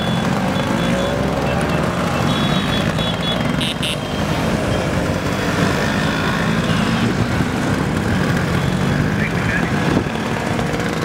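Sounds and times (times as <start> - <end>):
scooter engines droning: 0.0 - 11.0.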